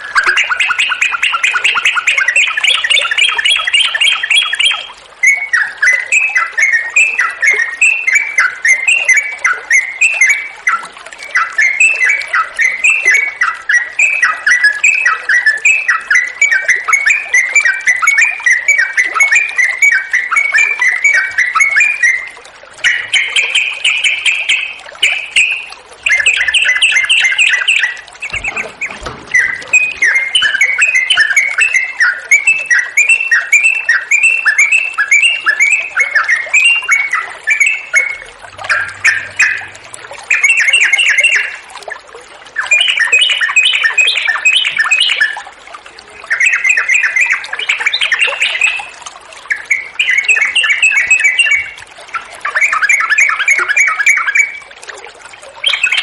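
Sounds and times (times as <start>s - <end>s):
bird singing bubbly notes: 0.0s - 56.0s
running water hiss: 0.0s - 56.0s.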